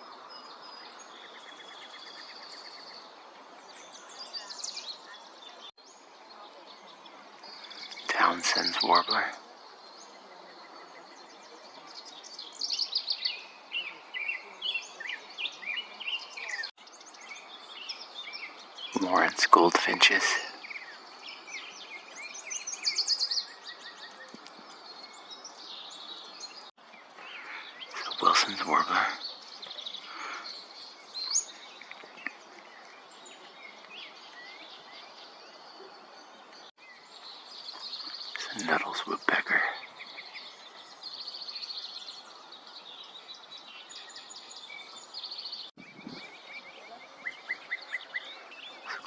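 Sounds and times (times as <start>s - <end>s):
songbird chirping: 0.0s - 49.0s
steady outdoor hiss: 0.0s - 49.0s.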